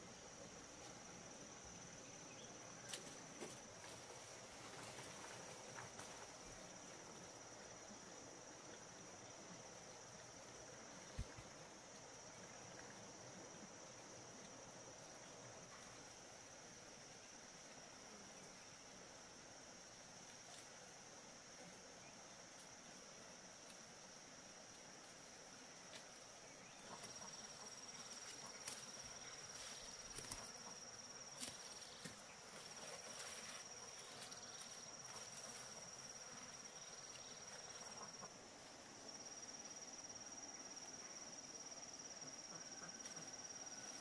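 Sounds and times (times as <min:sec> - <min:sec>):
insects calling: 0:00.0 - 0:44.0.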